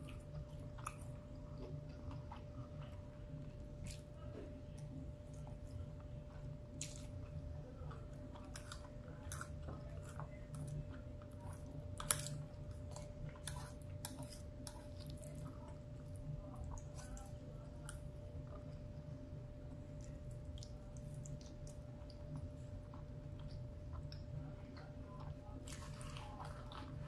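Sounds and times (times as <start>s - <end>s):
faint steady hum: 0.0s - 27.0s
person chewing food: 0.0s - 27.0s.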